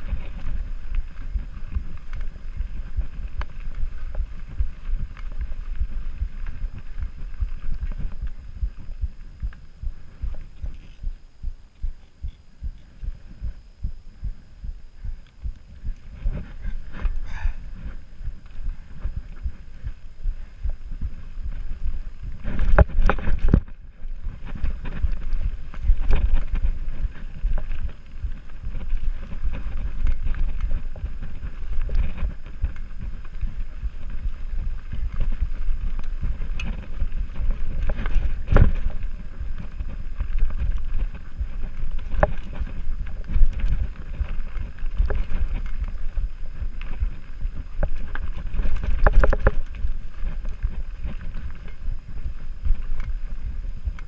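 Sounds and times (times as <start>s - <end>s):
bike knocking and rattling: 0.0s - 13.6s, 15.1s - 54.0s
bike tyres rumbling over dirt: 0.0s - 54.0s
wind buffeting microphone: 0.0s - 54.0s.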